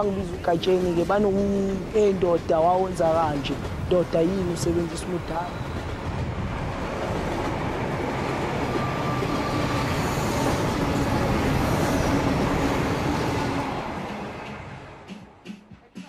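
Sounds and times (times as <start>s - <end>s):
train rumbling on track: 0.0s - 15.6s.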